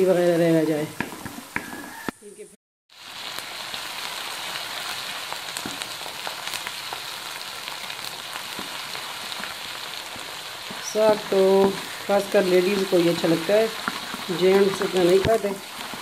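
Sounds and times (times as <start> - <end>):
onions sizzling in oil: 2.9 - 16.0
small oil crackles: 2.9 - 16.0.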